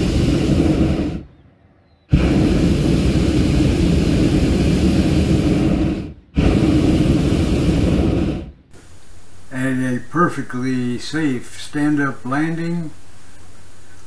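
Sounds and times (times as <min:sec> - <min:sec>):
propane burner blasts: 0:00.0 - 0:01.4, 0:02.0 - 0:14.0.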